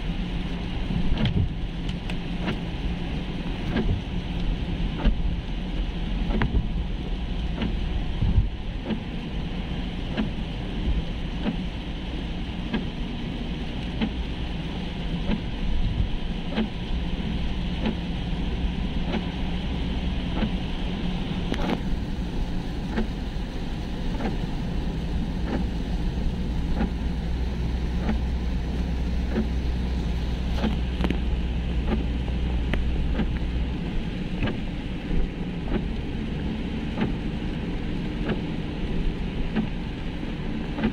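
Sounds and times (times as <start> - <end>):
low car drone: 0.0 - 40.9
rain ticking on windscreen: 0.0 - 40.9
tyre hiss on wet road: 0.0 - 40.9.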